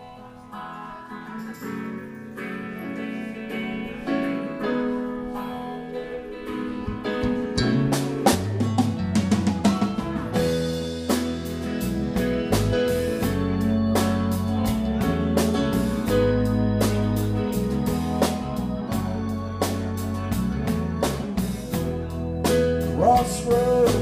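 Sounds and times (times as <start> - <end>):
bass guitar: 0.0 - 24.0
electric guitar notes: 0.0 - 24.0
drums: 1.4 - 24.0.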